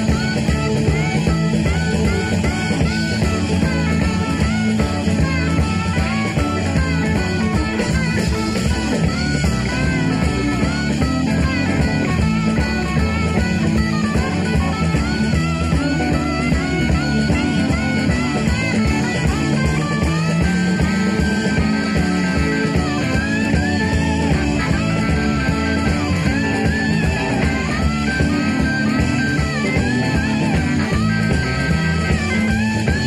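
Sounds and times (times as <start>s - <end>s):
electric guitar lead bending notes: 0.0s - 33.0s
live rock band playing: 0.0s - 33.0s.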